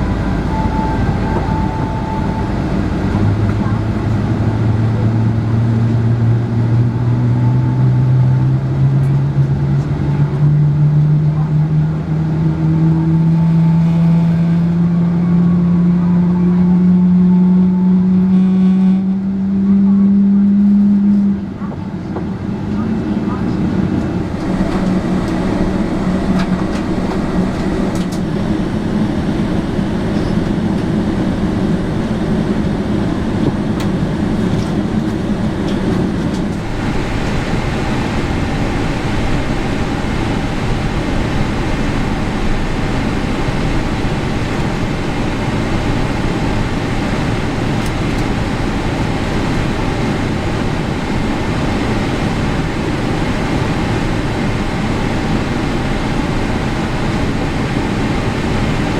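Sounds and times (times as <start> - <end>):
airframe rumbling: 0.0 - 15.6, 18.3 - 58.9
aircraft cabin engine roar: 0.0 - 58.9
faint engine whine: 0.0 - 58.9.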